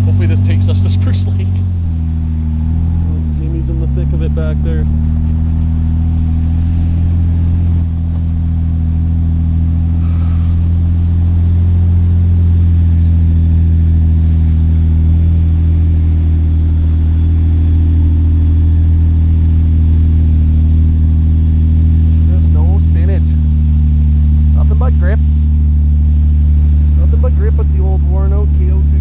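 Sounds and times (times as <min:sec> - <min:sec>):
off-road vehicle engine under load: 0:00.0 - 0:29.0.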